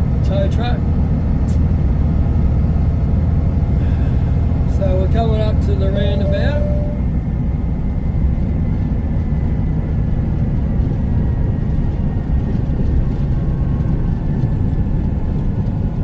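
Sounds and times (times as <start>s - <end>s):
low diesel engine rumble: 0.0s - 16.0s
road noise: 0.0s - 16.0s.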